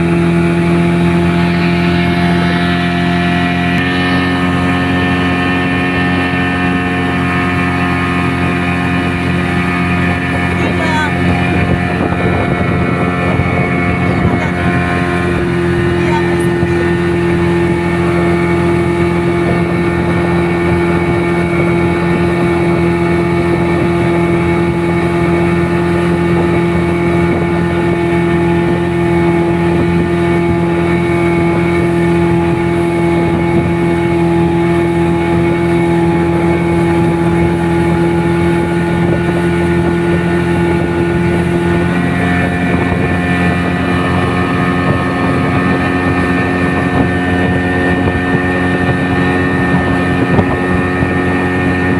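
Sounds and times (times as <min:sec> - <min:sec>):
engine running: 0:00.0 - 0:51.9.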